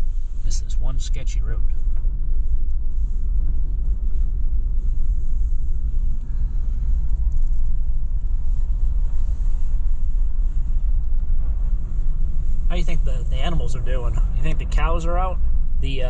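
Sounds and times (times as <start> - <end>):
vehicle engine and tyres rumbling: 0.0 - 16.0.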